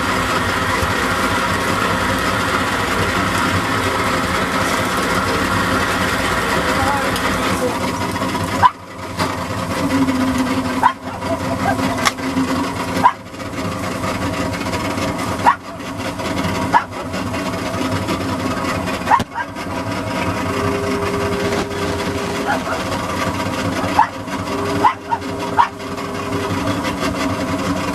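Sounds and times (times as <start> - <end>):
boat engine running: 0.0 - 27.9.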